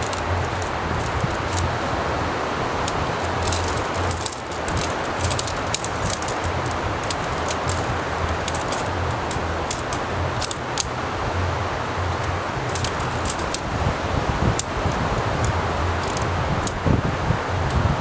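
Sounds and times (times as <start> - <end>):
raindrop ticks: 0.0 - 17.0
strong wind: 0.0 - 18.0
surf rushing: 0.0 - 18.0
wind rumbling on microphone: 0.0 - 18.0.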